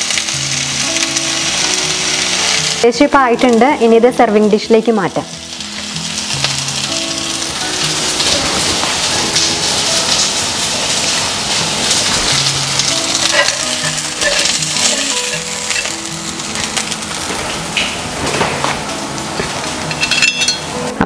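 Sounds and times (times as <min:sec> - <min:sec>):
background music: 0:00.0 - 0:21.0
chicken sizzling in a pan: 0:00.0 - 0:21.0.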